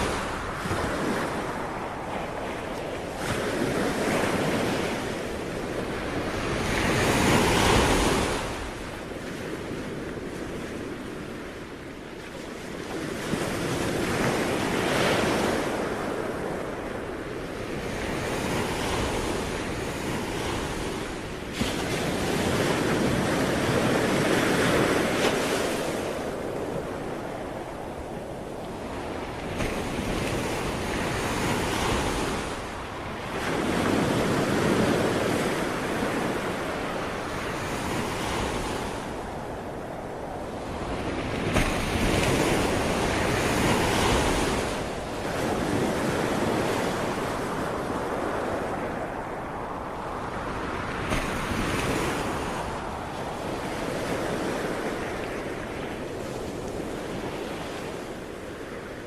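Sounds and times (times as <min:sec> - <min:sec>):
ocean waves breaking: 0:00.0 - 0:59.0
wind noise on microphone: 0:00.0 - 0:59.0.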